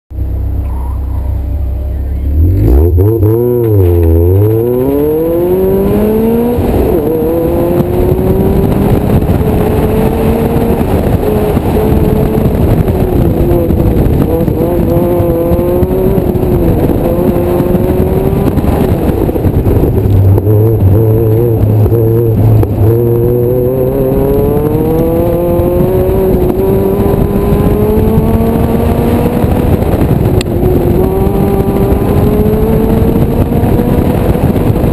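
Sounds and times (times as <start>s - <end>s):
car engine revving: 0.2s - 34.9s.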